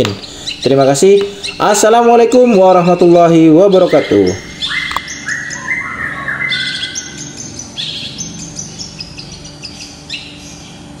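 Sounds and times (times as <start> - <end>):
bird chirping song: 0.0 - 11.0.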